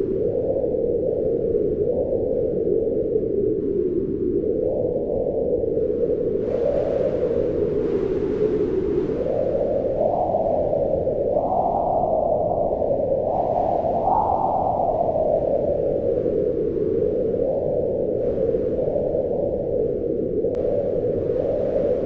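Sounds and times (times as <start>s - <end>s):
strong wind howling: 0.0s - 22.0s.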